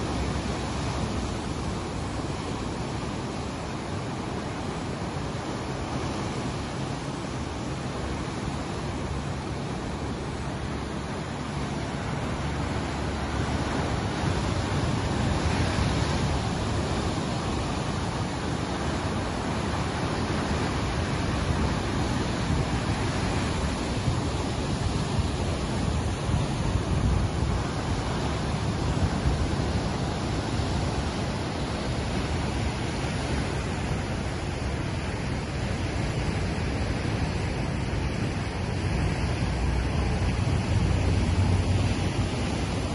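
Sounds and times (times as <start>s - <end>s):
waves breaking: 0.0s - 42.9s.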